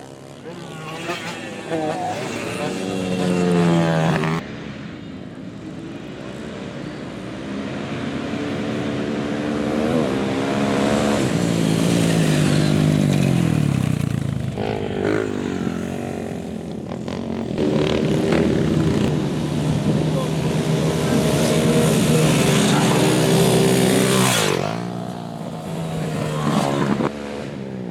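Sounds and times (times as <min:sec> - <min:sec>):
motorcycle engine passing by: 0:00.0 - 0:04.4, 0:07.6 - 0:27.9.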